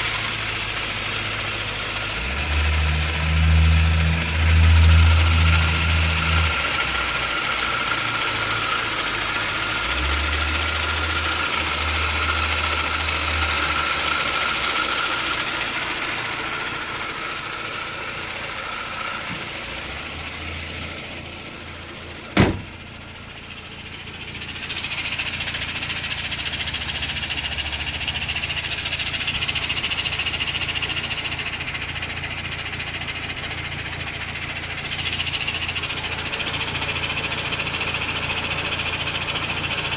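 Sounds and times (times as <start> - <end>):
car engine humming with whine: 0.0 - 39.9.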